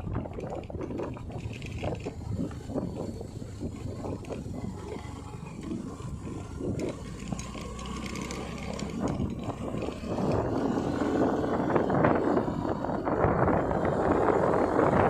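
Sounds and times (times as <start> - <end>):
motorcycle engine: 0.0 - 15.0
road noise: 0.0 - 15.0
wind rushing over microphone: 0.0 - 15.0.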